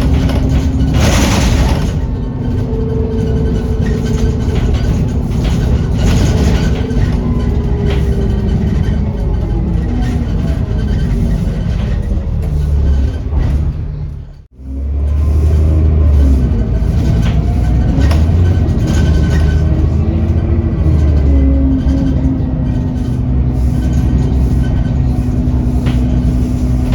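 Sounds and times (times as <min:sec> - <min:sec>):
bus diesel engine running: 0:00.0 - 0:26.9.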